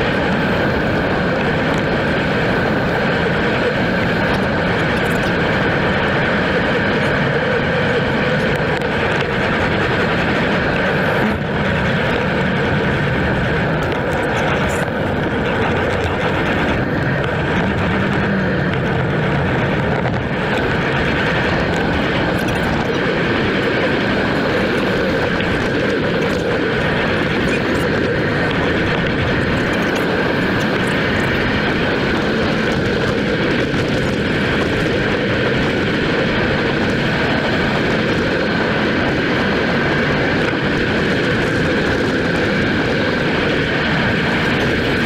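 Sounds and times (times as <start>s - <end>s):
bicycle road noise: 0.0s - 45.0s
wind rush on microphone: 0.0s - 45.0s.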